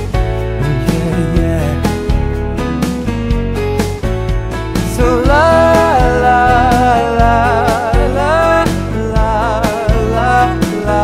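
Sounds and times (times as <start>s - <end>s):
love song music: 0.0s - 11.0s.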